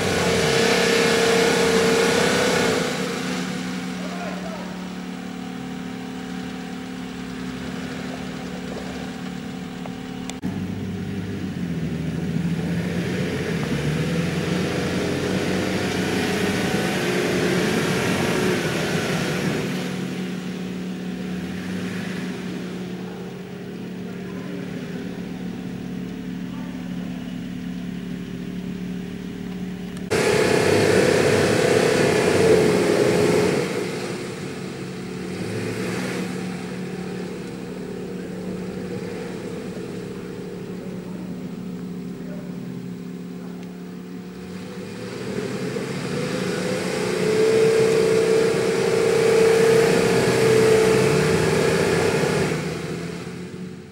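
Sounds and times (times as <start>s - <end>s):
engine revving under load: 0.0s - 53.9s.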